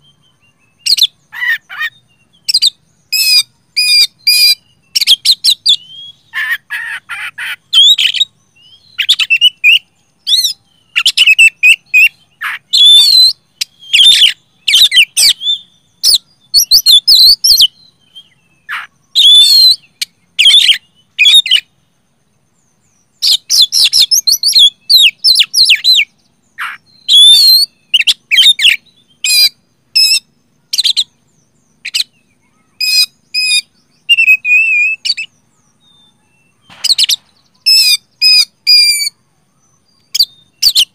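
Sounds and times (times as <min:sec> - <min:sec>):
bird singing loudly: 0:00.0 - 0:21.8, 0:22.7 - 0:40.9.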